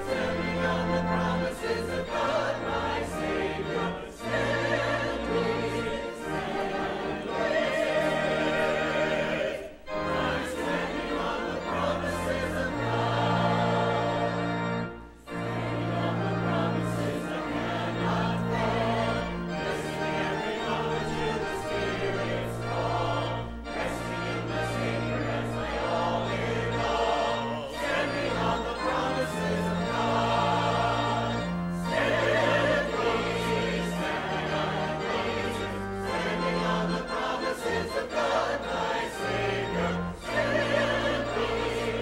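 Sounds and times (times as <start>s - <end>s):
church choir singing: 0.0s - 42.0s
organ with held bass notes: 0.0s - 42.0s.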